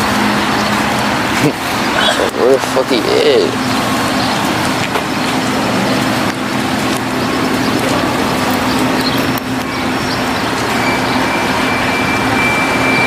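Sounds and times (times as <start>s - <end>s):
low engine hum: 0.0s - 13.0s
street traffic rush: 0.0s - 13.0s.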